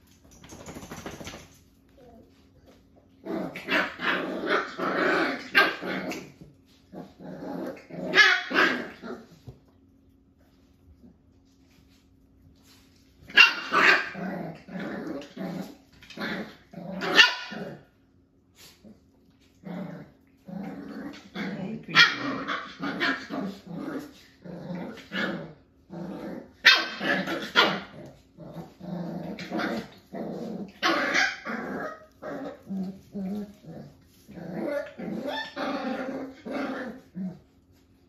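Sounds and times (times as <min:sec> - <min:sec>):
puppies growling and barking: 0:00.0 - 0:38.0.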